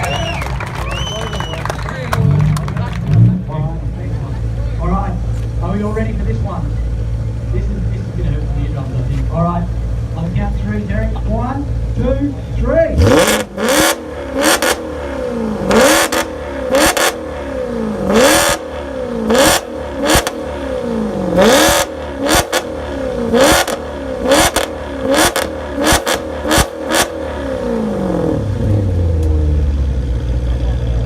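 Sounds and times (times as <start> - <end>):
car engine revving: 0.1 - 31.0.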